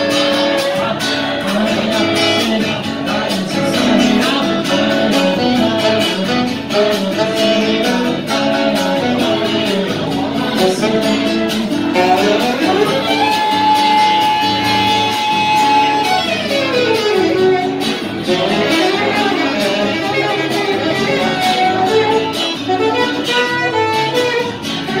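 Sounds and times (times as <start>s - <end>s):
guitar accompaniment: 0.0s - 25.0s
lead instrument melody: 0.0s - 25.0s.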